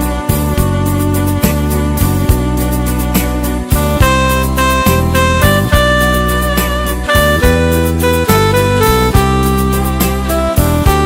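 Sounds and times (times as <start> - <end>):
instrumental music with bass: 0.0 - 11.0.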